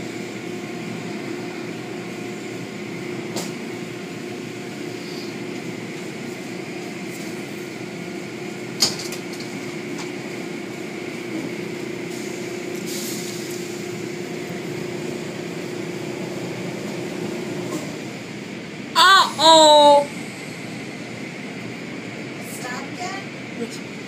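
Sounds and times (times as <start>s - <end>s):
car wash machinery hum: 0.0s - 24.0s.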